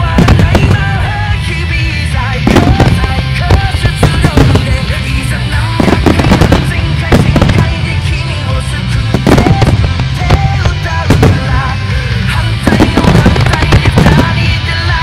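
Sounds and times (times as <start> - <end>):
fireworks bursting with loud bangs: 0.0 - 15.0
music playing: 0.0 - 15.0.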